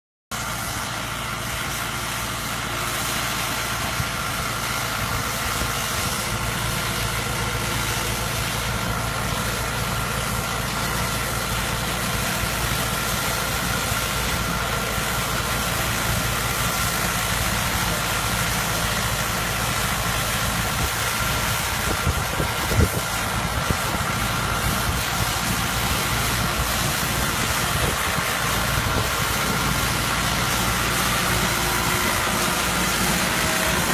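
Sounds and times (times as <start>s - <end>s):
tractor engine running: 0.3s - 33.9s.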